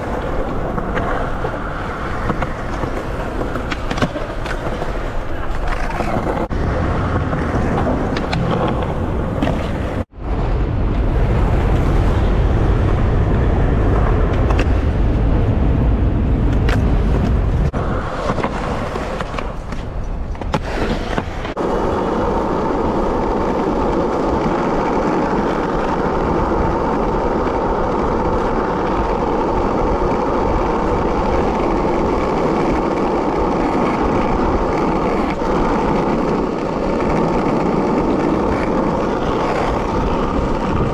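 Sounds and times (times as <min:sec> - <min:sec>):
skateboard clacks: 0:00.0 - 0:10.1, 0:16.5 - 0:40.9
skateboard wheels rolling: 0:00.0 - 0:40.9.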